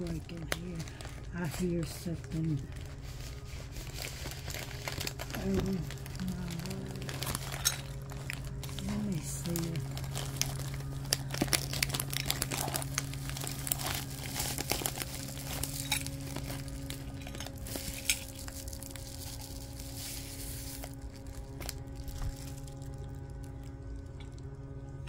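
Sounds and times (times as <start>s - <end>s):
bubble wrap crinkling: 0.0s - 25.0s.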